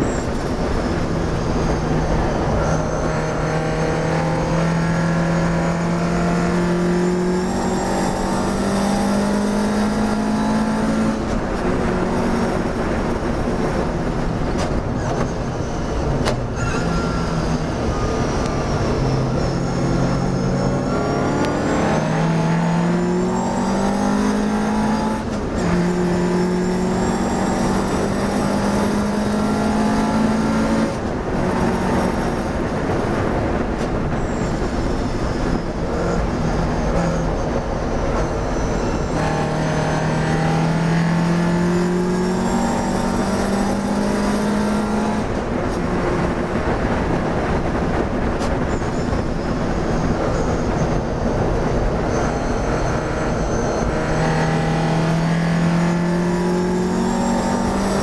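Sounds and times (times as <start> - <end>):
racing car engine revving: 0.0 - 58.0
wind and road noise: 0.0 - 58.0.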